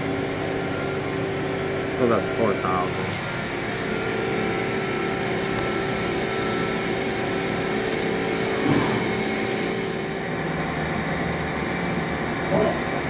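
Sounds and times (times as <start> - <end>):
machine drone with held tones: 0.0 - 13.0.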